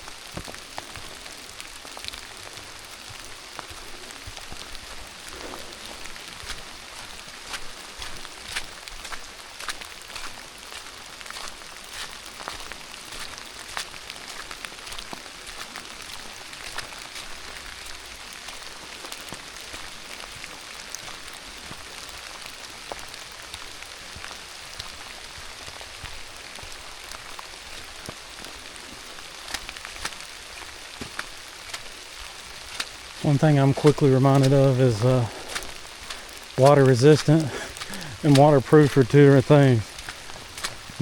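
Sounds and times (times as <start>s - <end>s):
raindrops ticking close by: 0.0s - 41.0s
steady rain hiss: 0.0s - 41.0s.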